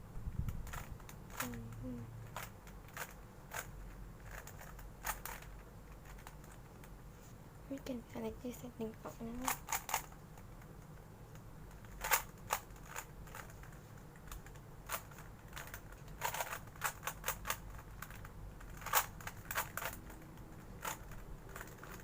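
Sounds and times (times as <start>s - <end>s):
puzzle cube turning clicks: 0.6s - 6.7s, 9.4s - 22.0s.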